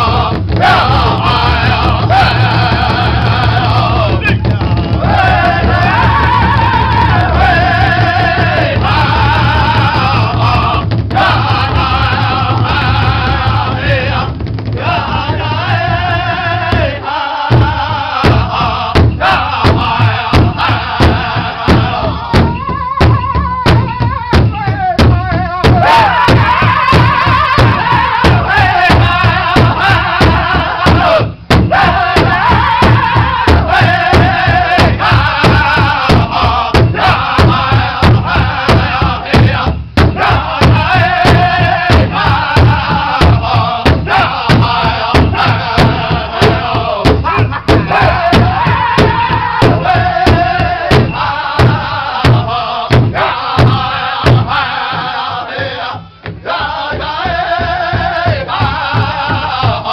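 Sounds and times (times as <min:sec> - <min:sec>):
large hide drum beat: 0:00.0 - 0:59.9
men singing in unison: 0:00.0 - 0:59.9.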